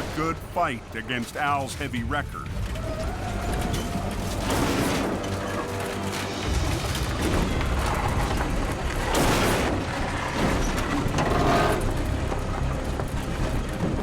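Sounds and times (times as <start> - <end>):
dramatic background music: 0.0 - 14.0.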